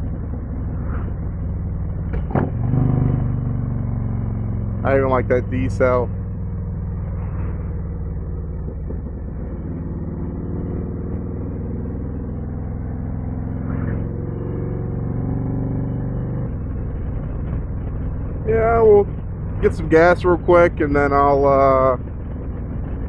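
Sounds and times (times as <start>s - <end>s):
motorcycle exhaust note: 0.0s - 23.0s.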